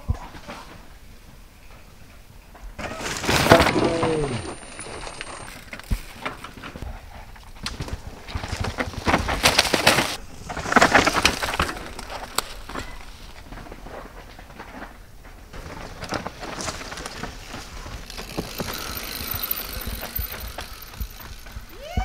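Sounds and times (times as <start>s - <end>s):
bike tyres crunching over rocks: 2.7s - 22.0s
bike tyres skidding in dirt: 2.7s - 22.0s.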